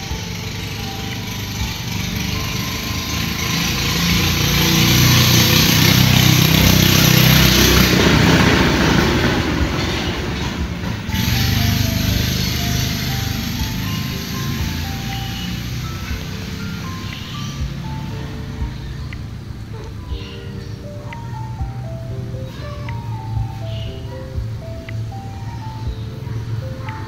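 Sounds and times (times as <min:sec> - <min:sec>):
tinkling jingle melody: 0:00.0 - 0:06.0, 0:10.8 - 0:27.0
motor vehicle passing: 0:00.0 - 0:27.0.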